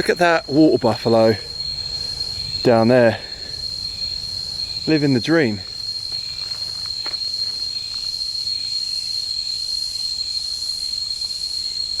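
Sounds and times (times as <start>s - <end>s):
insects high-pitched whine: 0.0s - 12.0s.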